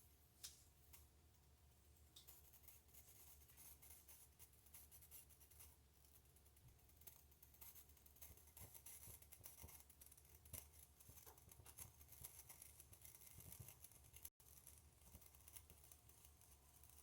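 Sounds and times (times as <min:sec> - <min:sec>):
alcohol stove burning: 0:00.0 - 0:17.0.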